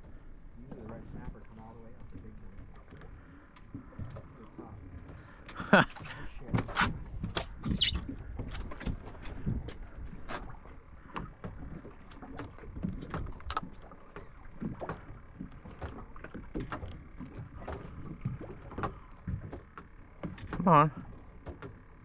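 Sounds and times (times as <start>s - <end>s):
water slapping against hull: 0.0s - 22.0s.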